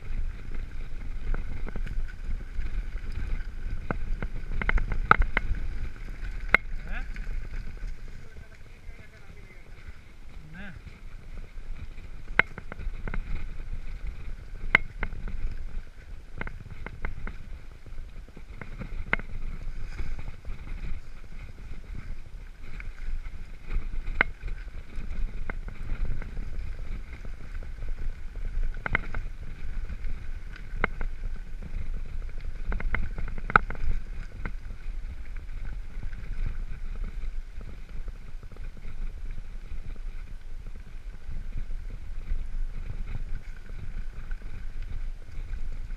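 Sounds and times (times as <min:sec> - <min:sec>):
bike rattling over bumps: 0:00.0 - 0:45.9
wind on microphone: 0:00.0 - 0:45.9.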